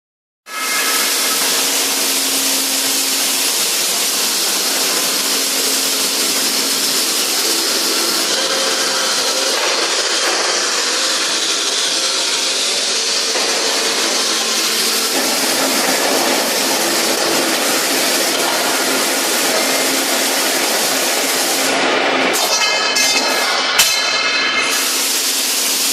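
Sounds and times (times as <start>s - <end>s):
welding machine hissing: 0.5s - 25.9s.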